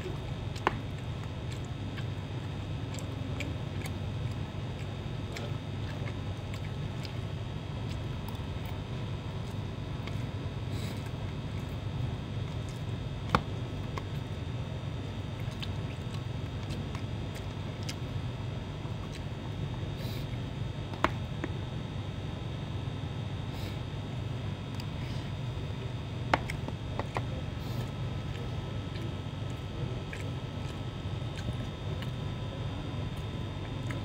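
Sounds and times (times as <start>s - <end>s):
faint chewing: 0.0s - 22.0s, 24.6s - 34.0s
steady low hum: 0.0s - 34.0s.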